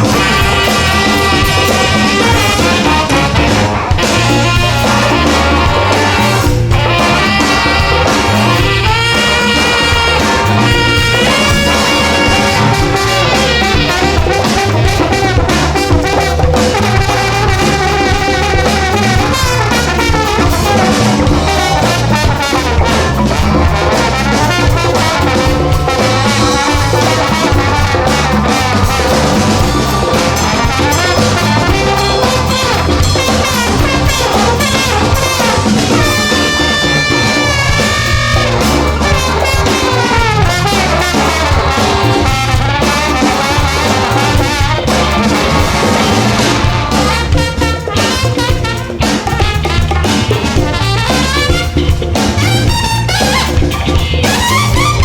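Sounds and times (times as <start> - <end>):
live band with horns and drums: 0.0 - 55.0.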